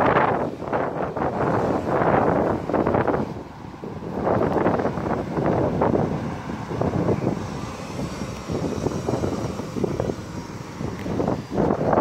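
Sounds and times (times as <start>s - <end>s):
bus engine rumble: 0.0s - 12.0s
wind buffeting microphone: 0.0s - 12.0s.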